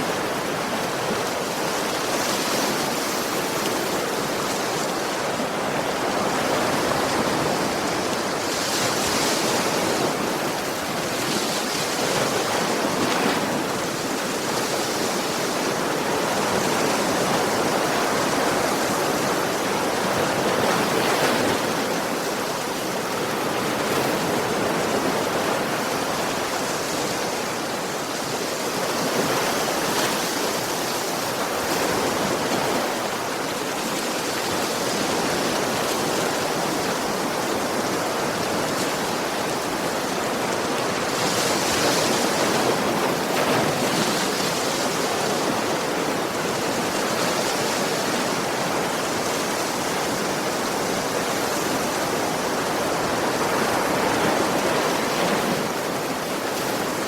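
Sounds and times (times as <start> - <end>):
sea waves washing onto beach: 0.0 - 57.0.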